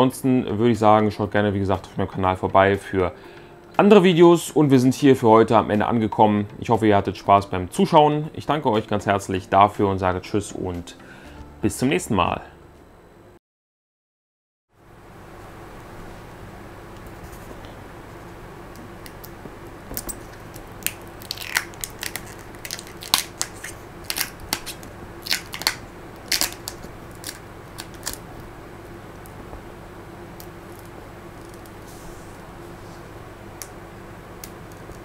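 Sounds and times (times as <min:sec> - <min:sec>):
faint steady hum: 0:00.0 - 0:13.4, 0:14.8 - 0:35.0.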